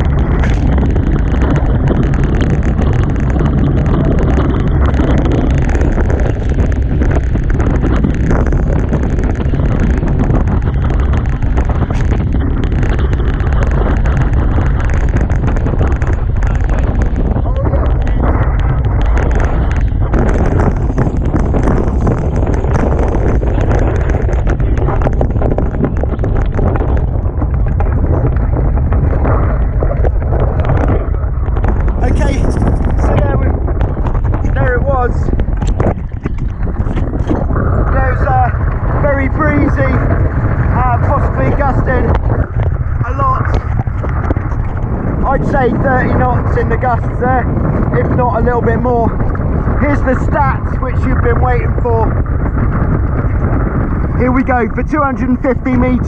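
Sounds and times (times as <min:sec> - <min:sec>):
water rushing along boat hulls: 0:00.0 - 0:56.0
wind buffeting microphone: 0:00.0 - 0:56.0.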